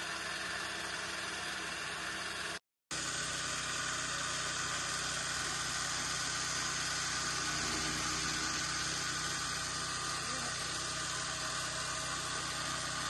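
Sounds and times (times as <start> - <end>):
chaff cutter machine running: 0.0 - 13.0.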